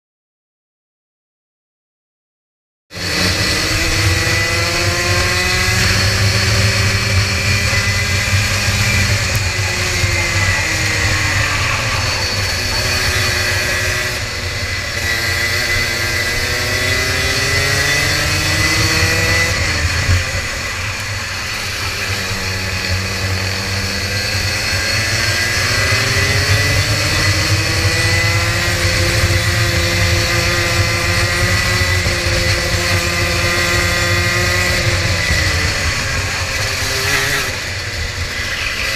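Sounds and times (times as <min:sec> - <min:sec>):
kart engine racing: 0:02.9 - 0:38.9.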